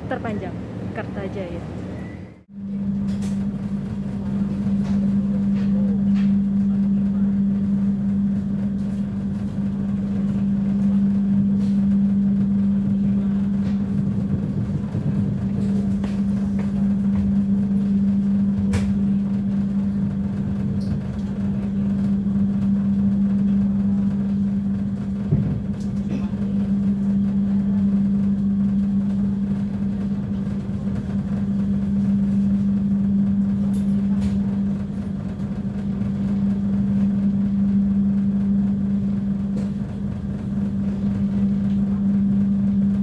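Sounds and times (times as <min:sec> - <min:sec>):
train drone: 0:00.0 - 0:43.0.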